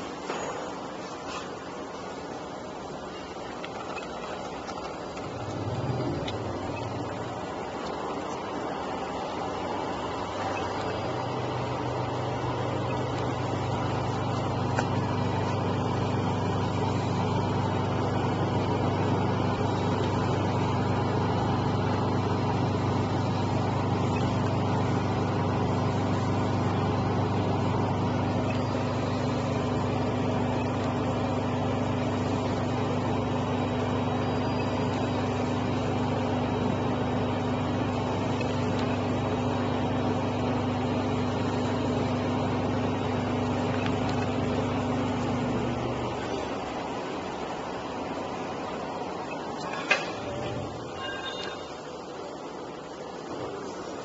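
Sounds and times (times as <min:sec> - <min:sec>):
spin dehydrator motor hum: 0:03.5 - 0:48.8.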